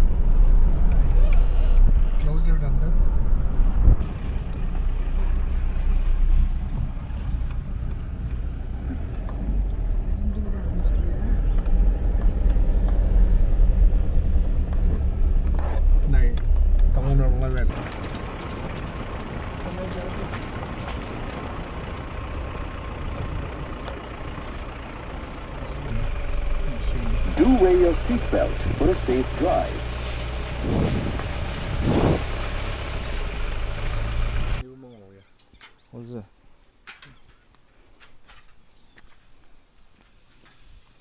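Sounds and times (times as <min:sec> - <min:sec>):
vehicle rumble: 0:00.0 - 0:34.7.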